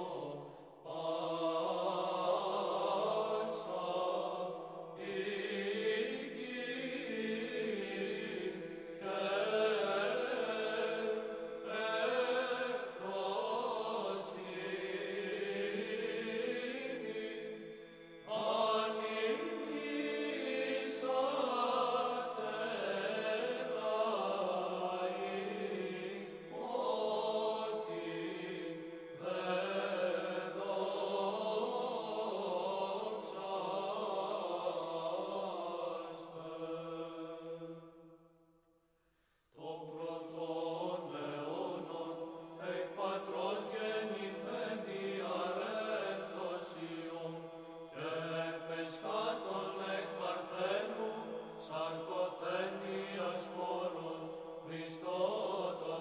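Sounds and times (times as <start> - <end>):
choir chanting a hymn: 0.0 - 38.3, 39.5 - 56.0.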